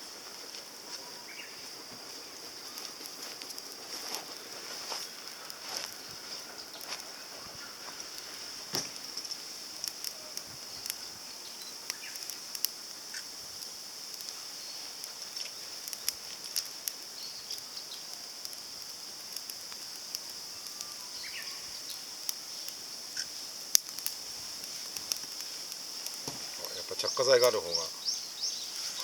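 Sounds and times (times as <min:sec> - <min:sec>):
fire crackling and popping: 0:00.0 - 0:29.0
high insect buzz: 0:00.0 - 0:29.0.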